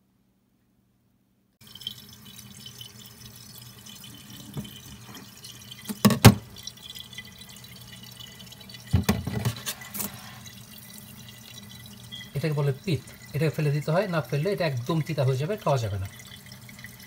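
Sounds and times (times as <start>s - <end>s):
tap water running into sink: 1.6s - 17.0s.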